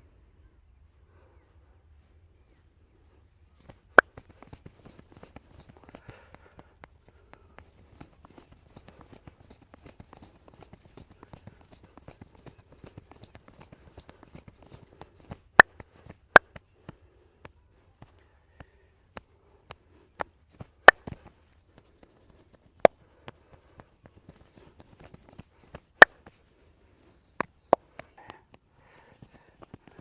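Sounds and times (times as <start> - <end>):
light sharp massage slaps: 3.6 - 26.5, 27.4 - 30.0.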